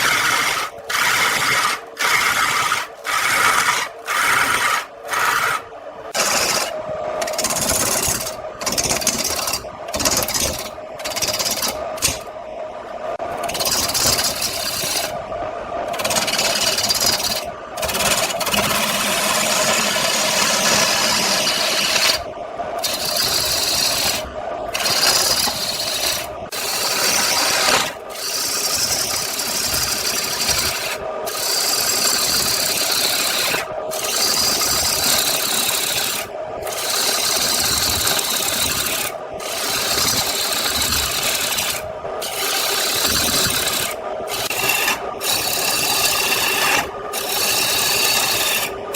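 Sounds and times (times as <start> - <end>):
tool scraping wood on lathe: 0.0 - 12.3, 13.4 - 15.2, 15.9 - 22.2, 22.8 - 48.8.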